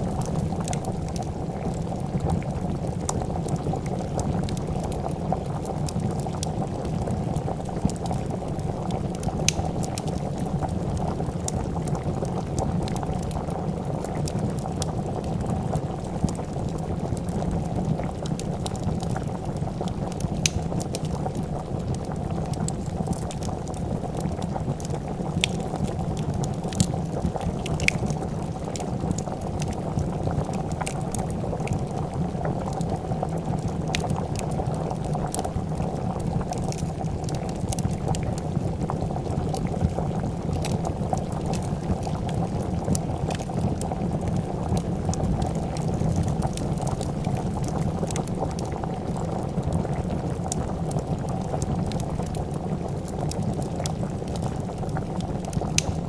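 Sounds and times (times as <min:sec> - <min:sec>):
soup boiling and bubbling: 0:00.0 - 0:56.0
wood fire crackling: 0:00.0 - 0:56.0.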